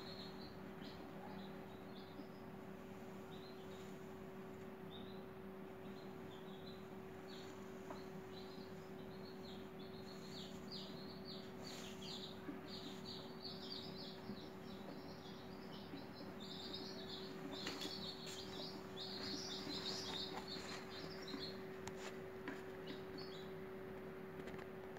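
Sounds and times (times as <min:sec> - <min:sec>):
small birds chirping: 0:00.0 - 0:24.8.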